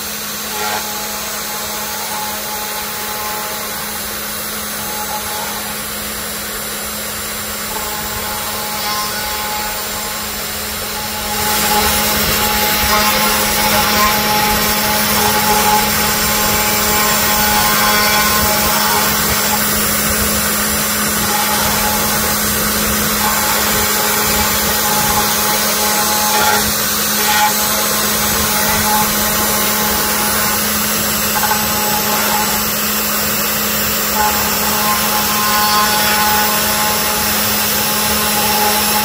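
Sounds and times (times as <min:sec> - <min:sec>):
router spindle motor hum: 0:00.0 - 0:39.0.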